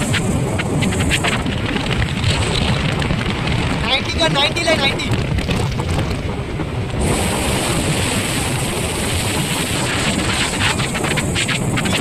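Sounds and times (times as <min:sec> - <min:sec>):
motorcycle running: 0:00.0 - 0:12.0
wind rushing over microphone: 0:00.0 - 0:12.0.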